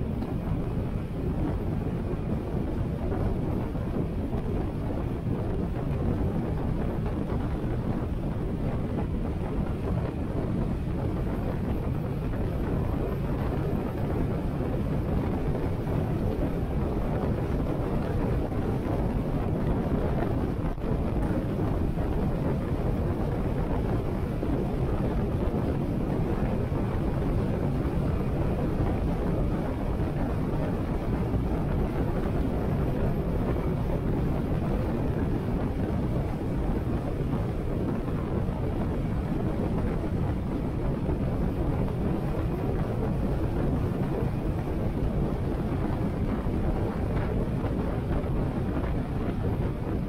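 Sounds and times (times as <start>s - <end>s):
wind rushing on microphone: 0.0s - 50.0s.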